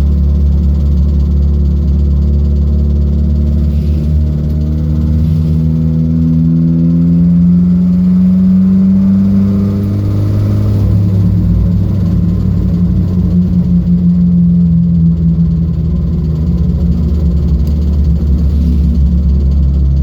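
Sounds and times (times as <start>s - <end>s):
car engine running under load: 0.0s - 20.0s.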